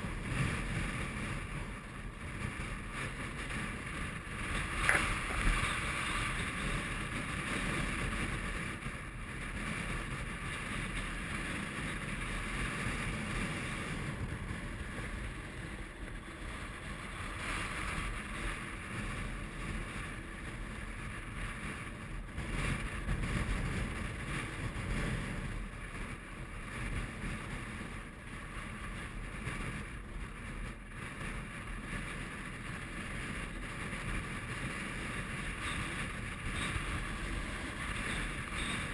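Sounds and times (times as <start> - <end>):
wind blowing over microphone: 0.0 - 38.9.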